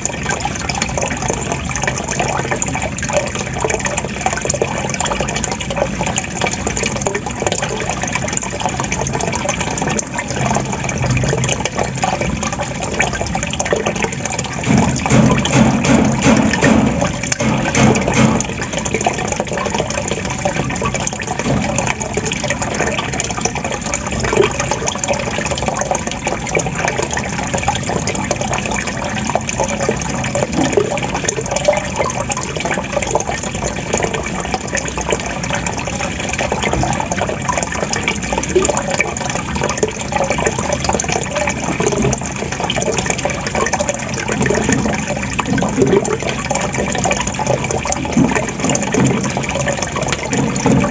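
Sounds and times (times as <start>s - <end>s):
running water gurgling: 0.0s - 50.9s.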